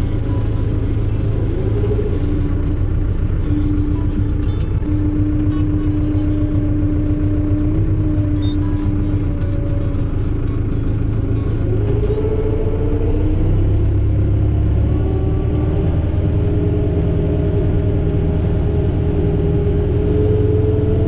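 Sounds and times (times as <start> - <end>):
tractor engine rumbling with whine: 0.0 - 21.0.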